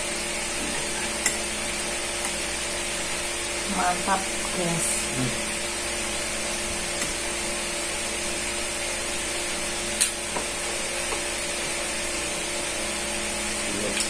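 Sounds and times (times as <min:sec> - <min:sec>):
machine hum and hiss: 0:00.0 - 0:14.0.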